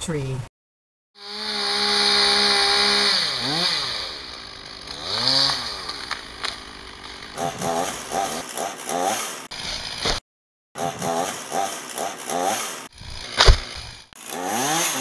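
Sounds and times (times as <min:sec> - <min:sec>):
chainsaw cutting wood: 0:01.2 - 0:10.2, 0:10.8 - 0:15.0.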